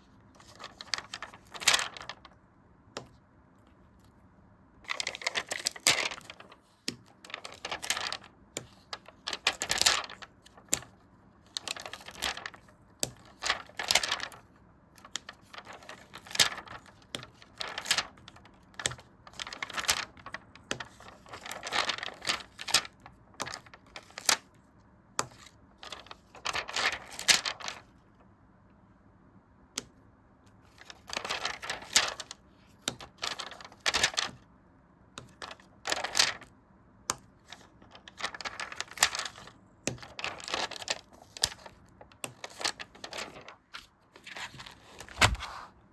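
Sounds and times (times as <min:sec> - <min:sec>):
paper rustling and scratching: 0:00.4 - 0:02.4, 0:04.9 - 0:24.5, 0:25.2 - 0:28.0, 0:30.6 - 0:34.4, 0:35.2 - 0:36.5, 0:37.1 - 0:45.8.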